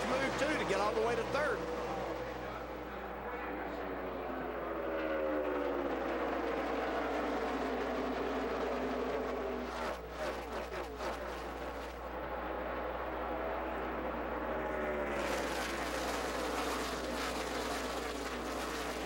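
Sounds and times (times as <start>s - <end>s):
cars passing by: 0.0s - 19.0s
race car engines droning: 0.0s - 19.0s.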